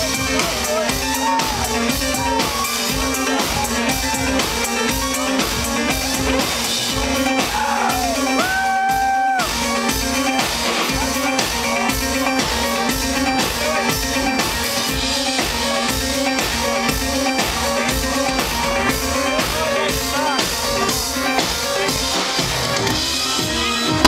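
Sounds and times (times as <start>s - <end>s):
live electronic dance music: 0.0s - 24.0s.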